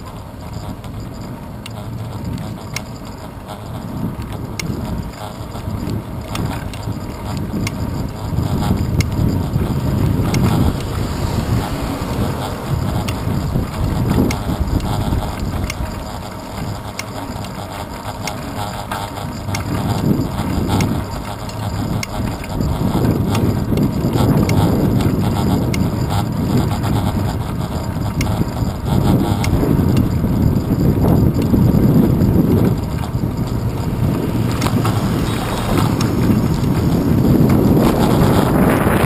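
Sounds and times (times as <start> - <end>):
road rumble: 0.0 - 39.0
handlebar mount clicks and rattles: 1.6 - 35.2
wind buffeting: 1.7 - 39.0.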